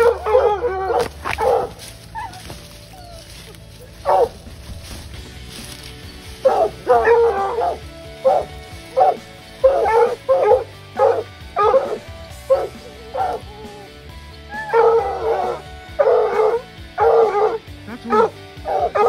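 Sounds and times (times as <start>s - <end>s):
hound barking: 0.0s - 4.6s, 6.4s - 19.0s.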